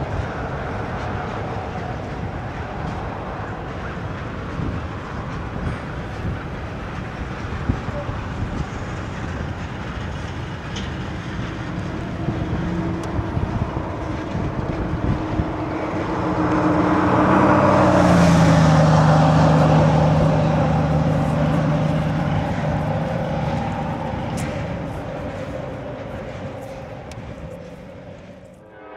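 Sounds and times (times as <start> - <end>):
freight train rolling by: 0.0 - 28.9
road vehicle passing: 0.0 - 28.9.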